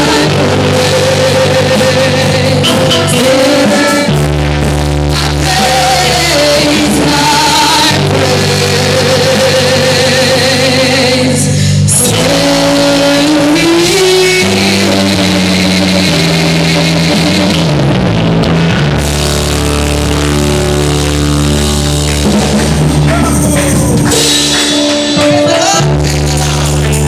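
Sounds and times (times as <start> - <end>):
loud rock band music: 0.0 - 27.0.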